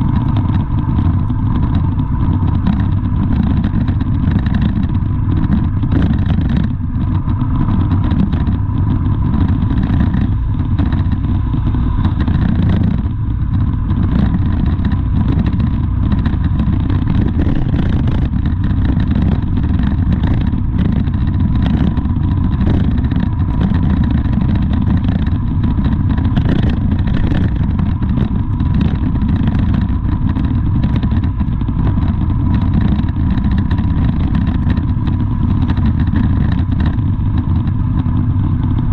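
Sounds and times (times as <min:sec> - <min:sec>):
faint steady whine: 0:00.0 - 0:38.9
vehicle engine rumble: 0:00.0 - 0:38.9.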